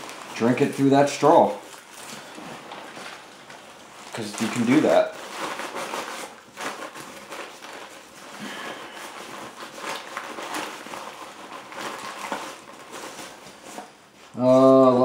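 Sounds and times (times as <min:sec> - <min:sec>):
fabric bag rustling: 0:00.0 - 0:14.4.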